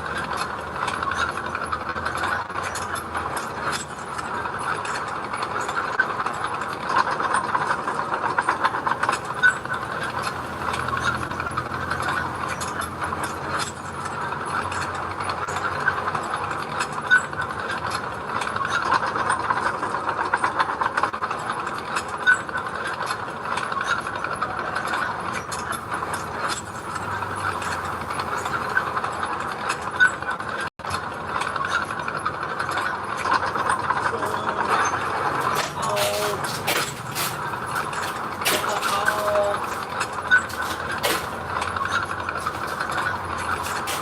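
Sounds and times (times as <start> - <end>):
bulldozer engine running: 0.0 - 44.0
rapid metallic clatter: 0.0 - 44.0.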